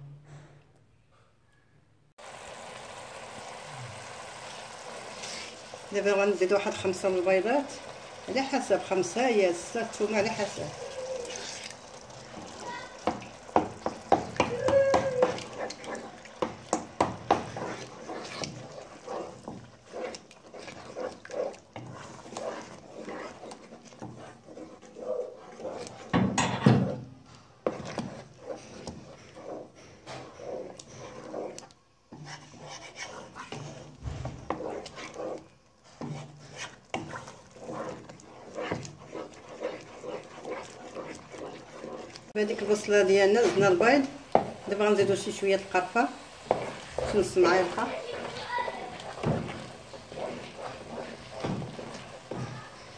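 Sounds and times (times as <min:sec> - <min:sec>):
thick mixture bubbling: 0:02.2 - 0:52.9
wooden spoon stirring in pot: 0:02.2 - 0:52.9.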